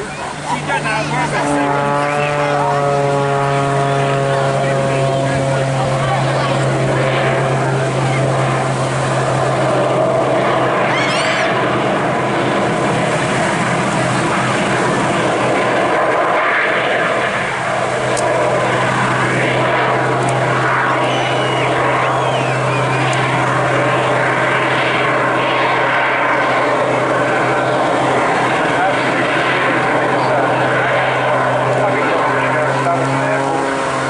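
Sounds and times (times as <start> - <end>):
propeller aircraft engine droning: 0.0 - 34.0.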